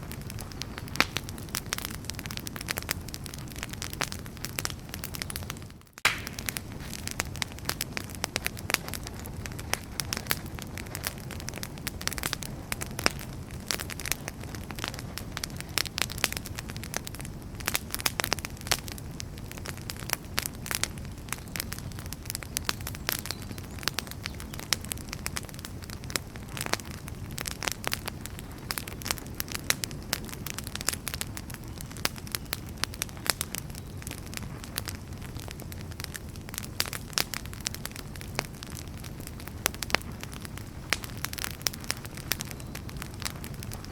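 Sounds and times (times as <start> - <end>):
low rumble of flames: 0.0 - 43.9
wood fire crackling and popping: 0.0 - 43.9.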